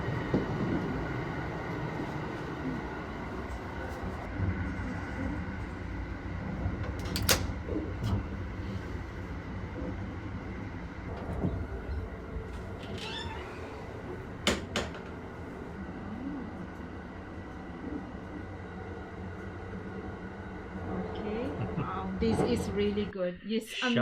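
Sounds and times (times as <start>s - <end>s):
train rumble inside carriage: 0.0s - 23.2s.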